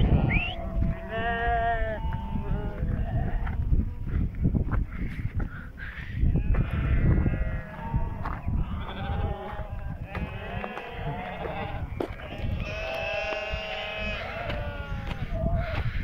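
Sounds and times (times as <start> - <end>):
sheep bleating: 0.0 - 3.7, 6.4 - 16.0.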